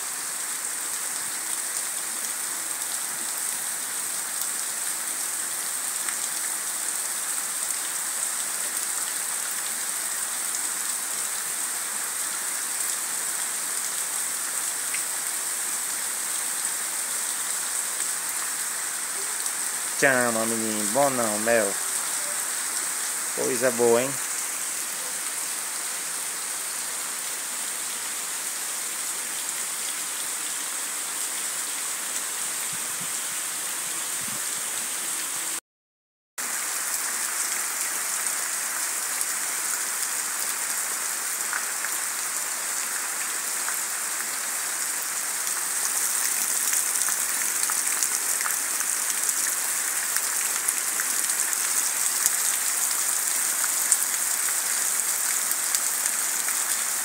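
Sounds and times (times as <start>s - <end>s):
heavy rain on trees: 0.0s - 35.6s, 36.4s - 57.0s.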